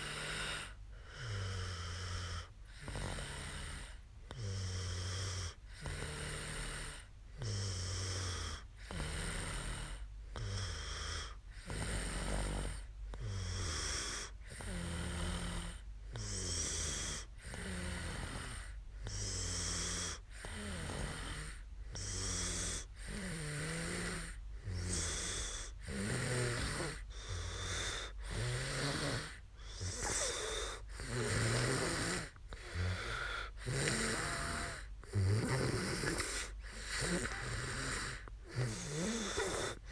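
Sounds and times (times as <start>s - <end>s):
woman snoring: 0.0s - 39.9s.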